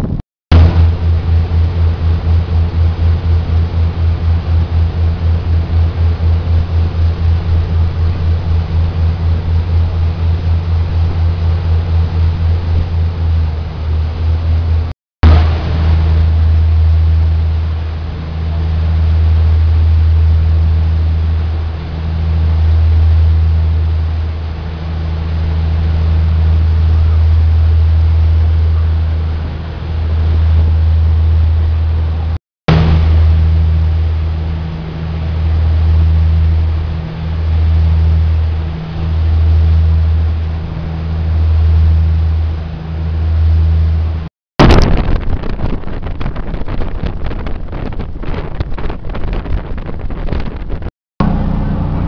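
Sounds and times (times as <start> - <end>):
ferry engines droning: 0.0 - 44.3, 51.2 - 52.0
wind and water wash: 0.0 - 50.9.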